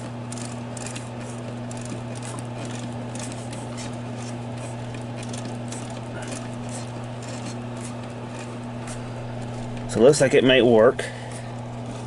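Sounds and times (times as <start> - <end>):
film projector clicking: 0.0 - 12.0
low steady hum: 0.0 - 12.0.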